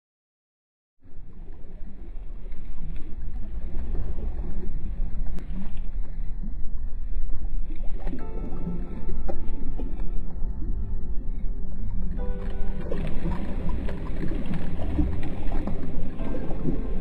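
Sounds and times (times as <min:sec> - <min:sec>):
small waves washing on shore: 0:01.0 - 0:17.0
wind rumbling on microphone: 0:01.0 - 0:17.0.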